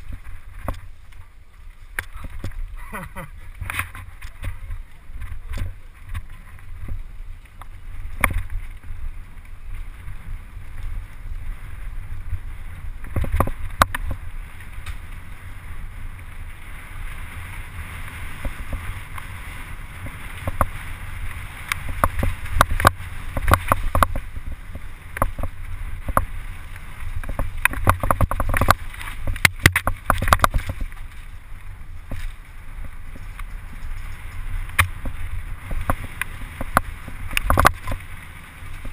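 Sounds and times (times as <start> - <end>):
bike clattering over bumps: 0.0 - 38.9
wind rumble on microphone: 0.0 - 38.9.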